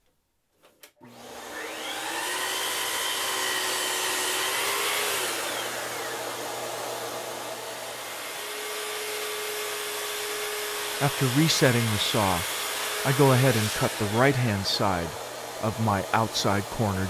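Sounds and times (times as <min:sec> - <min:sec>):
dust extraction vacuum rushing: 0:01.0 - 0:17.0
miter saw whining and cutting: 0:01.0 - 0:17.0.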